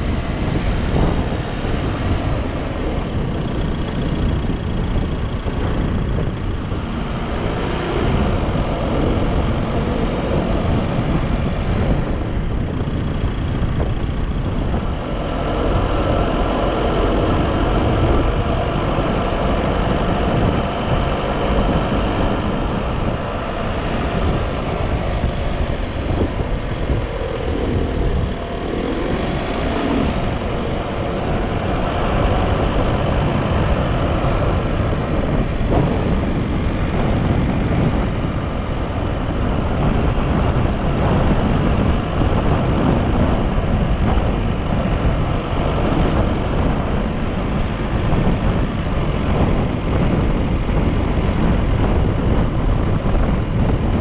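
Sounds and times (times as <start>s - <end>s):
vehicle driving at speed: 0.0s - 54.0s.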